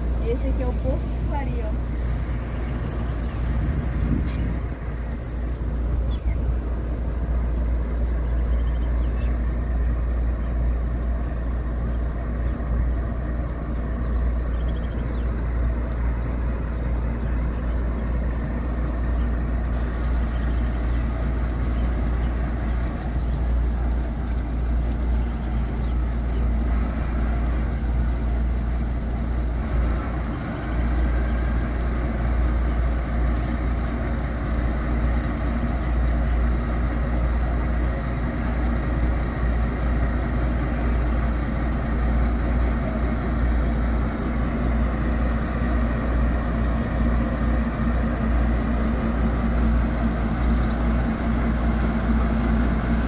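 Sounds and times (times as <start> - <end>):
boat engines rumbling: 0.0 - 53.0.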